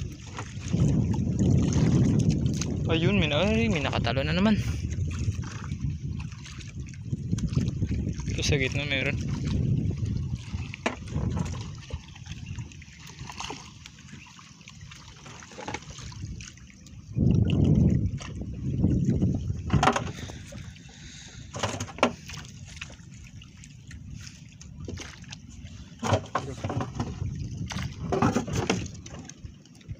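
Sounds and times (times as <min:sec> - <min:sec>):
water splashing against a boat: 0:00.0 - 0:29.9.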